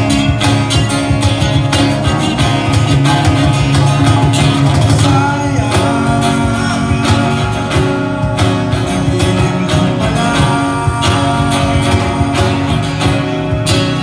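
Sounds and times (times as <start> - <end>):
acoustic band music: 0.0 - 14.0
strummed acoustic guitar: 0.0 - 14.0.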